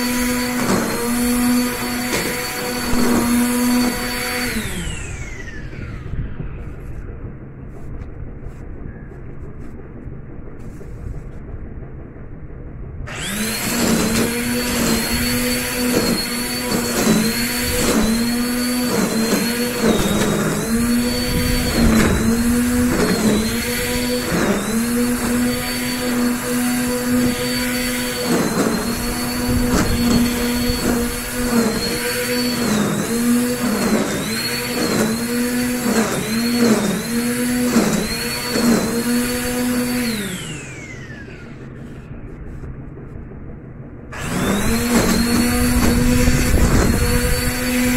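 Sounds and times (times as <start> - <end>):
electric string trimmer running: 0.0 - 7.1, 13.1 - 42.1, 44.1 - 47.9
trimmer whirring down: 0.0 - 7.6, 13.1 - 42.1, 44.1 - 47.9.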